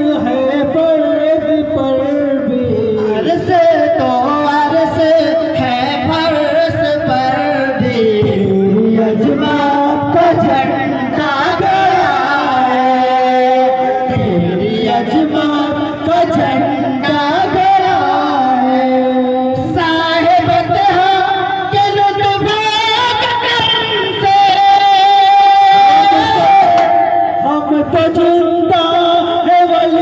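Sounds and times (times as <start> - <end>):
men singing amplified chant: 0.0 - 30.0.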